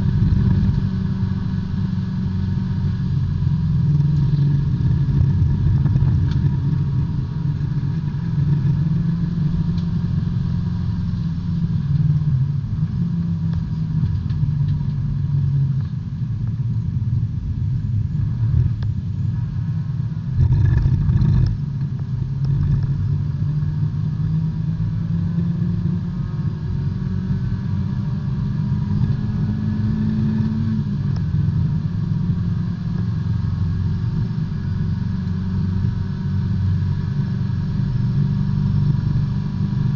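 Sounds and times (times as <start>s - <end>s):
race car engine running hard: 0.0s - 39.9s
road and drivetrain noise: 0.0s - 39.9s.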